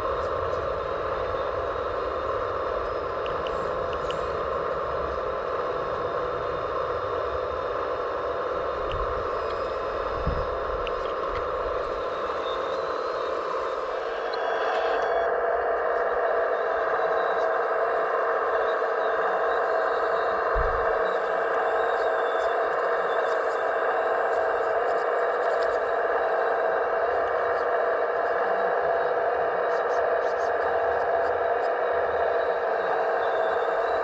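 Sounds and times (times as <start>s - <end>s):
electric motors whirring: 0.1s - 34.0s.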